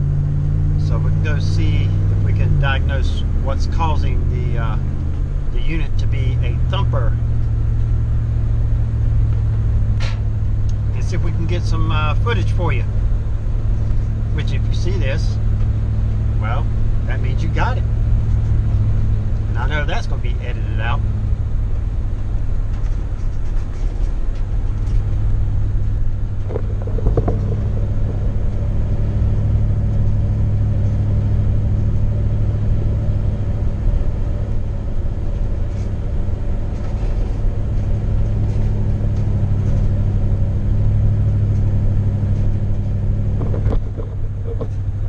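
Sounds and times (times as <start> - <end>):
road noise inside car: 0.0 - 45.0
vehicle engine rumble: 0.0 - 45.0.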